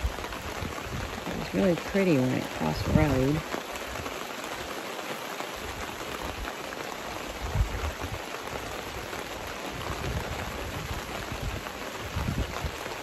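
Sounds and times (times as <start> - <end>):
pouring rain: 0.0 - 13.0.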